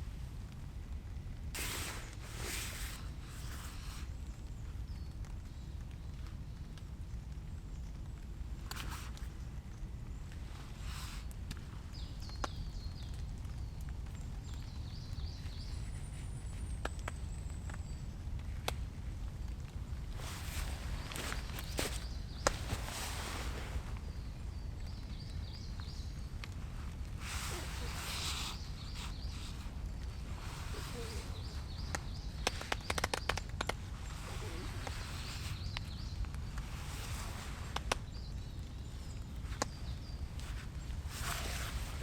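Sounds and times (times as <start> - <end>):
rustle: 0.0 - 42.0
small birds chirping: 1.6 - 42.0.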